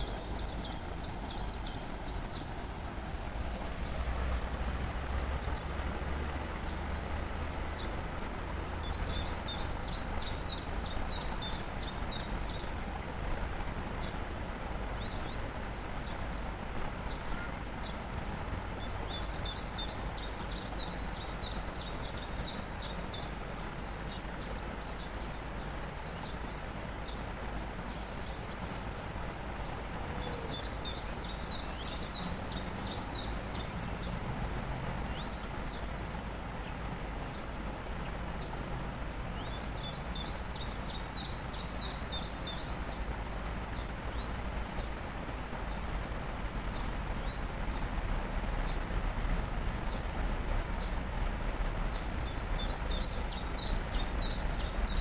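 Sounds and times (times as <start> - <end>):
songbird singing: 0.0 - 55.0
waterfall rushing: 0.0 - 55.0.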